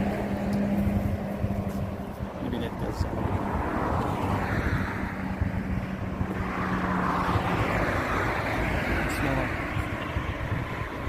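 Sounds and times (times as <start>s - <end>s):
highway traffic passing: 0.0s - 11.0s.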